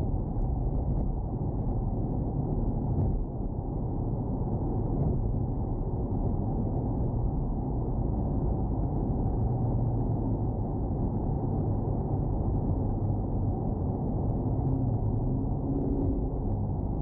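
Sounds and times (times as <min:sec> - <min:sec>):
car cabin engine rumble: 0:00.1 - 0:17.0.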